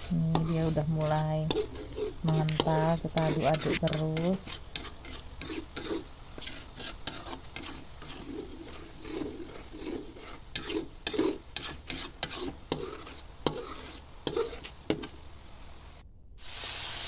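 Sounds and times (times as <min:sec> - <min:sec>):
metal spatula scraping wok: 0:00.0 - 0:15.3
low simmering sizzle: 0:00.0 - 0:17.0.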